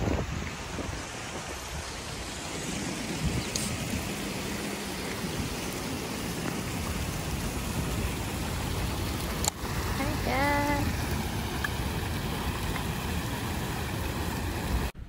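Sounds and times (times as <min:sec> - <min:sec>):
fountain water splashing into pool: 0:00.0 - 0:15.0.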